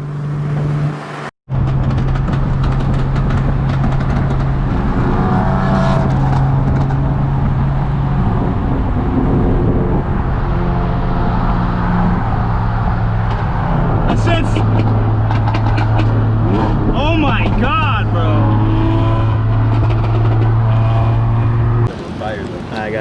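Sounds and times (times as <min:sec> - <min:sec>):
car engine drone: 0:00.0 - 0:23.0
road and wind noise: 0:00.0 - 0:23.0.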